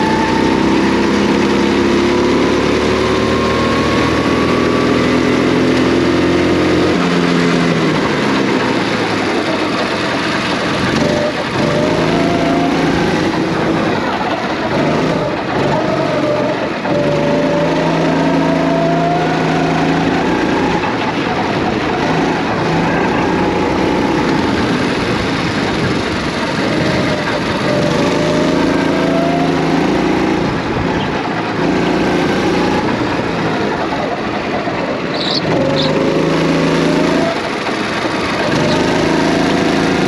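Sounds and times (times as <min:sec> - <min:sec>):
kart engine revving: 0:00.0 - 0:40.0.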